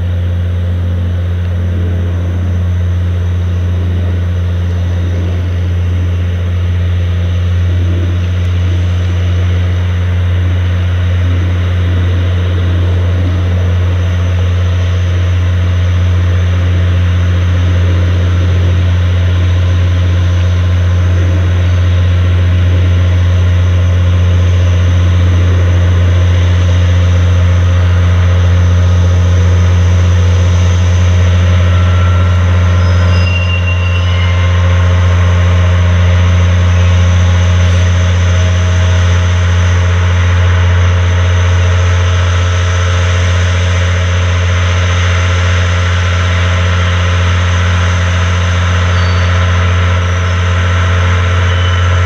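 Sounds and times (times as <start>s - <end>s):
diesel locomotive engine droning: 0.0s - 52.0s.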